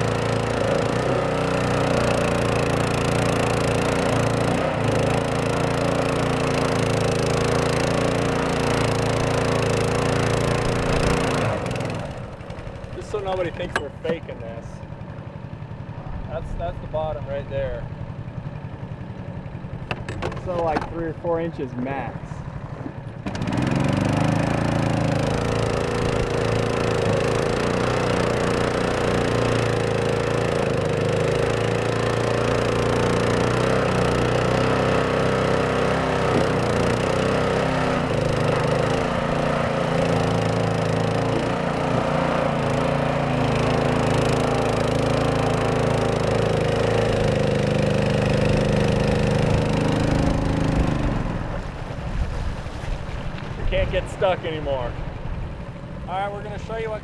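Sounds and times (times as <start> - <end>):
boat motor running: 0.0 - 57.0.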